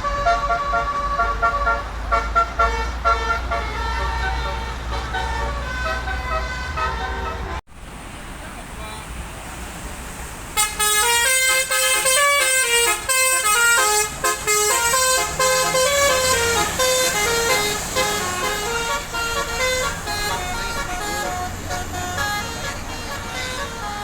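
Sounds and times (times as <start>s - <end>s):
multi-tone bus horn melody: 0.0s - 7.6s, 10.6s - 24.0s.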